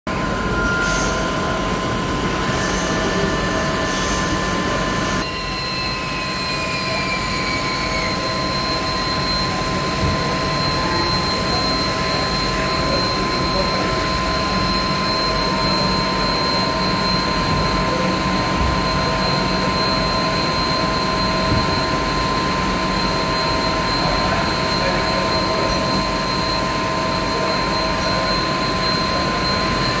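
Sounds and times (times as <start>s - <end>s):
lathe machine whine: 0.1s - 30.0s.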